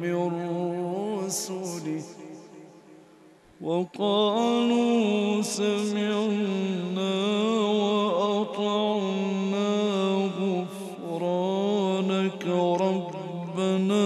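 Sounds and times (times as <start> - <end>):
man chanting melodically: 0.0 - 2.6, 3.6 - 14.0.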